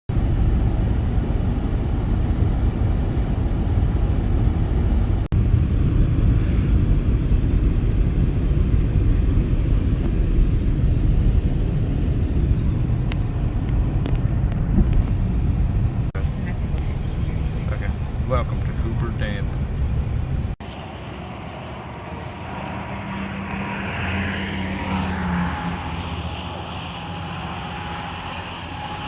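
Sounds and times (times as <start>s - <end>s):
low outdoor rumble: 0.0s - 23.3s.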